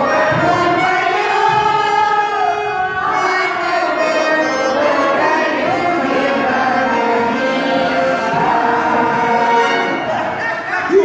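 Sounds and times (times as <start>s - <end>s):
button accordion: 0.0s - 10.3s
group of people singing: 0.0s - 10.5s.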